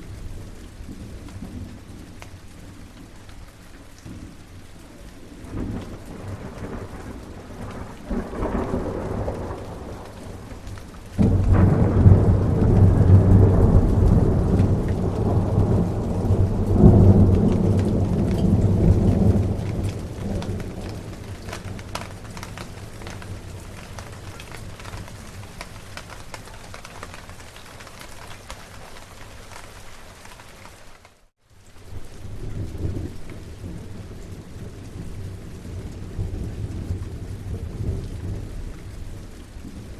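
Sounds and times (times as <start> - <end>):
steady rain: 0.0 - 39.9
thunder rumbling: 4.0 - 29.6, 31.9 - 39.9.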